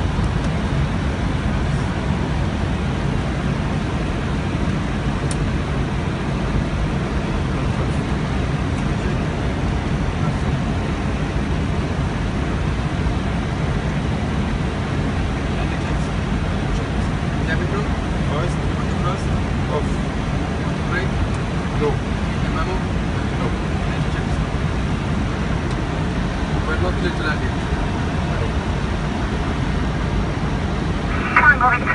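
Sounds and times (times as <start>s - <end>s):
aircraft cockpit airflow and engine noise: 0.0s - 31.9s.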